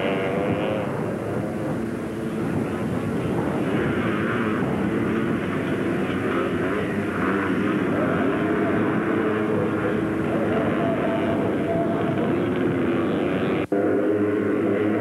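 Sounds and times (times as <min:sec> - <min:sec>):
racing atv engines: 0:00.0 - 0:15.0.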